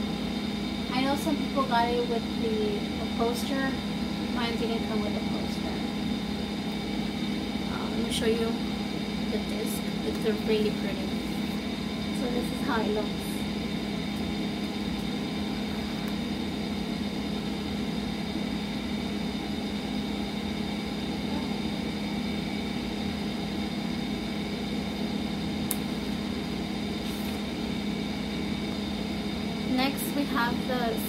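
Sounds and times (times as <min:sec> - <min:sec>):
faint high whine: 0:00.0 - 0:31.0
steady low hum: 0:00.0 - 0:31.0.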